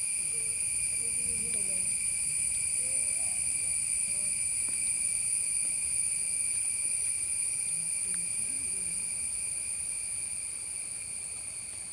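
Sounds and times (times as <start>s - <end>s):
shrill insect chorus: 0.0s - 11.9s.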